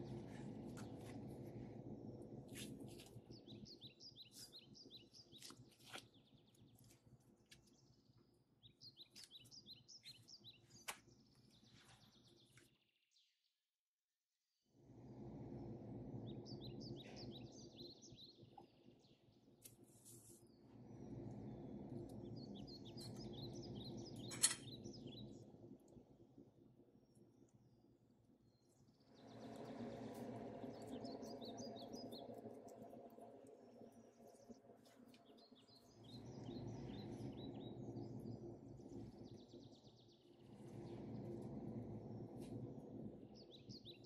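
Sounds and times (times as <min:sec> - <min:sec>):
faint birds chirping: 0:00.0 - 0:13.6, 0:14.9 - 0:44.0.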